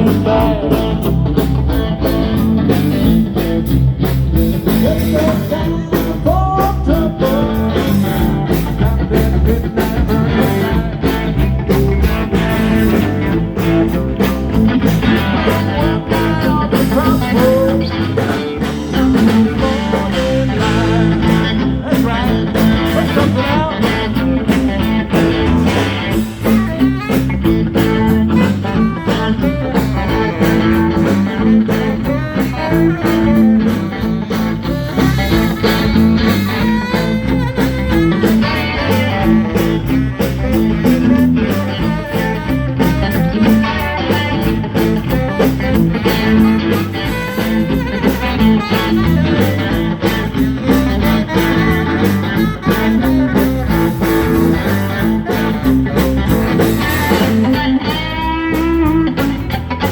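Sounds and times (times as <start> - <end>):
bass guitar: 0.0 - 59.9
drums: 0.0 - 59.9
electric guitar lead with bending notes: 0.0 - 59.9.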